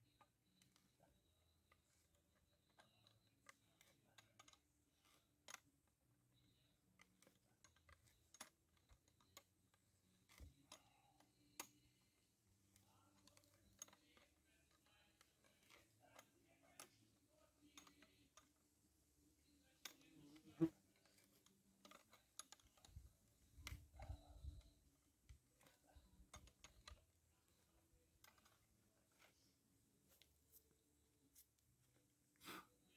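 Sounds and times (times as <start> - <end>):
faint irregular clicks and taps: 0.0 - 32.8.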